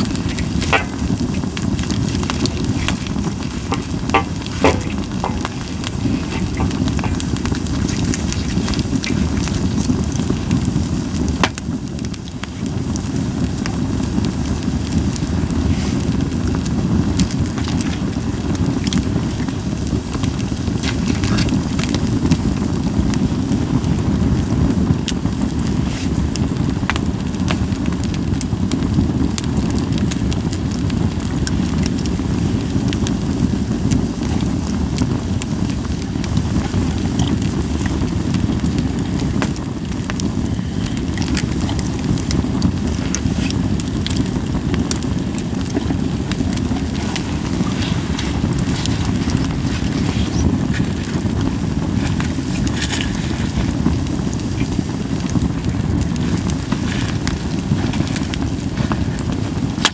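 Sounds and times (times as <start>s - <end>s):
fire crackling and popping: 0.0s - 59.9s
fire low rumble: 0.0s - 59.9s.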